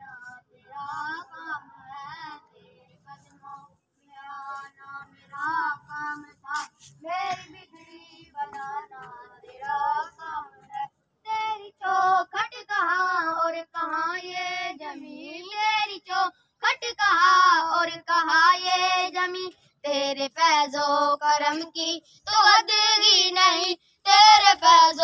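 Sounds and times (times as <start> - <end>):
person singing devotional song: 0.0 - 25.0.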